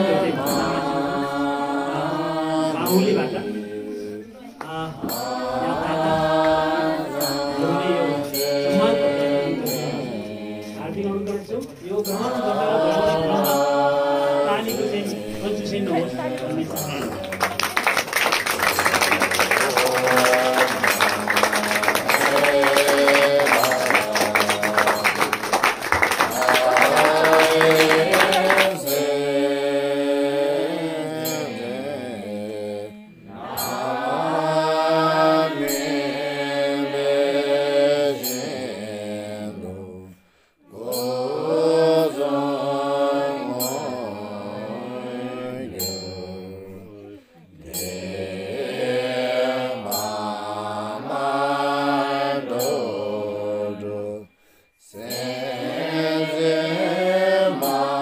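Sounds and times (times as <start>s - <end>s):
chanting voice: 0.0s - 58.0s.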